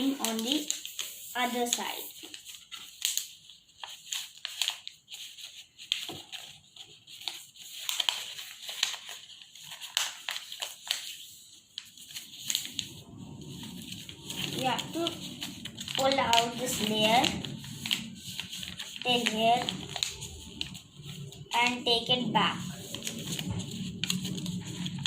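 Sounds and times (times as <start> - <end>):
paper being folded and creased: 0.0 - 25.0.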